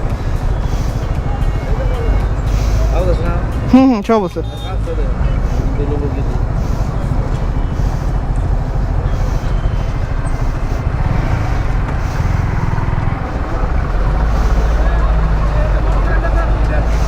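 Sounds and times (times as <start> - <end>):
motorcycle engine running: 0.0 - 3.8, 4.5 - 17.0.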